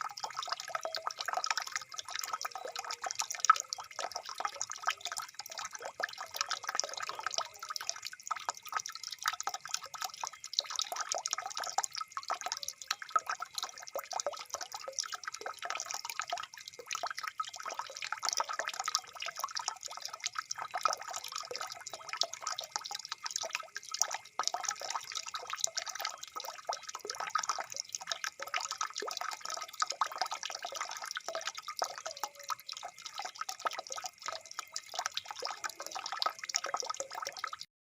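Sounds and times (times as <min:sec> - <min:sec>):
water trickling and dripping: 0:00.0 - 0:37.7.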